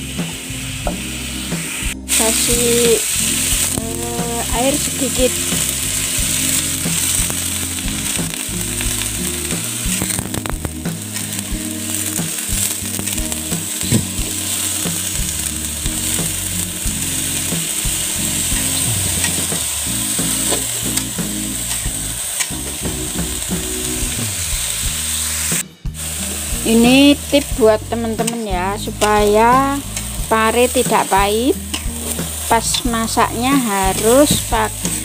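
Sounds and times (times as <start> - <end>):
vegetables sizzling in a wok: 0.0 - 35.0.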